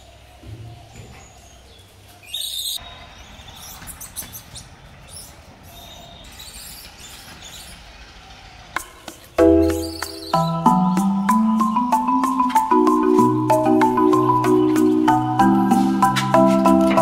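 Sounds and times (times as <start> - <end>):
birds chirping: 0.0 - 17.0
outdoor ambience: 0.0 - 17.0.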